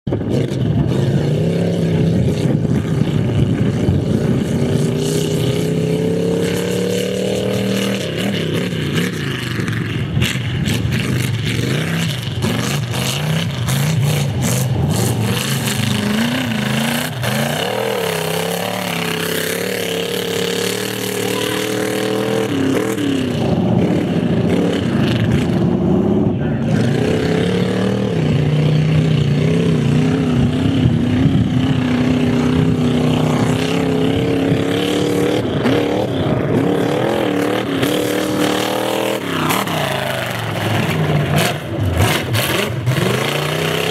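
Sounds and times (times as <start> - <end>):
engine revving hard: 0.1 - 43.9.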